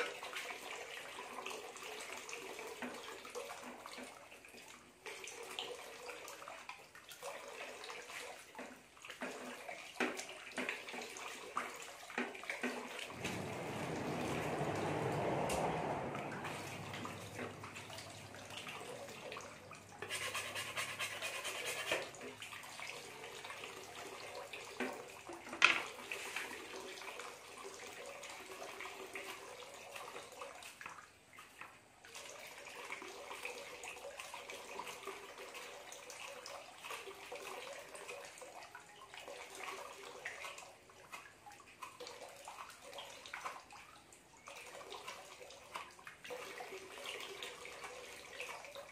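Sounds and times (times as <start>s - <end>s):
water pouring into metal basin: 0.0s - 30.9s, 32.1s - 48.9s.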